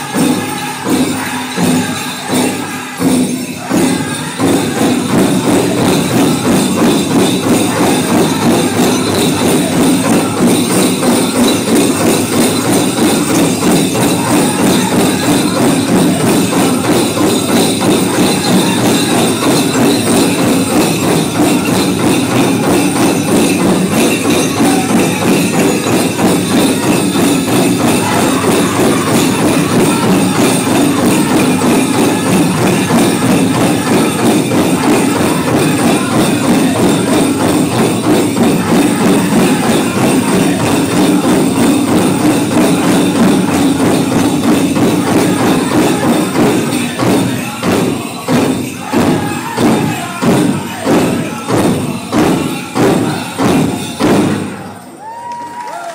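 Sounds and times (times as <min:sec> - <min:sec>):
group singing: 0:00.0 - 0:54.7
fast beat on big drum: 0:00.0 - 0:54.8
jingling leg bells: 0:00.0 - 0:55.9.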